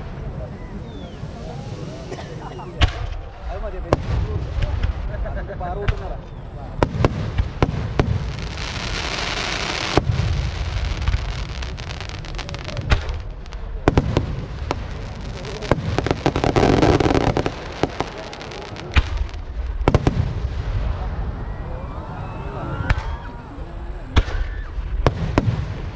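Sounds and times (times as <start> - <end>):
fireworks crackling: 0.8 - 21.3, 23.8 - 25.9
fireworks bangs: 0.9 - 21.6, 22.4 - 25.9.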